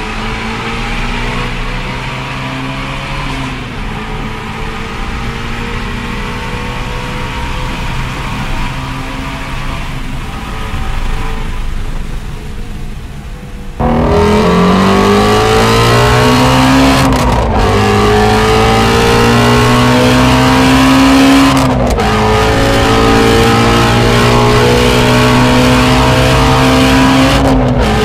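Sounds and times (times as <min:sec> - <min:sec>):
car engine accelerating in tunnel: 0:00.0 - 0:28.0.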